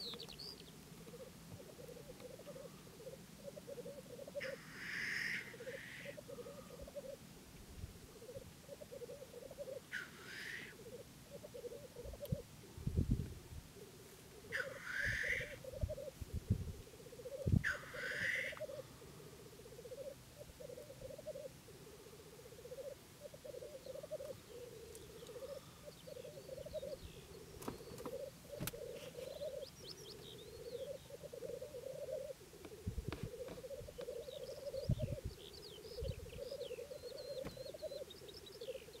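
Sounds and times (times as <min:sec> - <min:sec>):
birds high chirps: 0:00.0 - 0:13.1, 0:13.8 - 0:39.0
grouse bubbling cooing song: 0:00.0 - 0:39.0.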